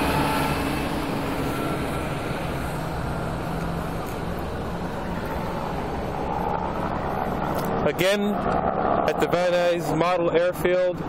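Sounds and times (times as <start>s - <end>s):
background rush: 1.0s - 11.0s.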